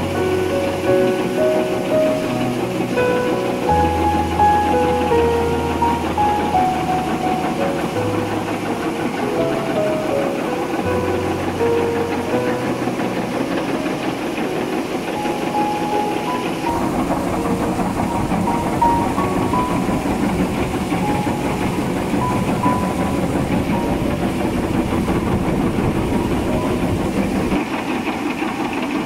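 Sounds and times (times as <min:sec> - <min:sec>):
shaking table mechanical clatter: 0:00.0 - 0:29.0.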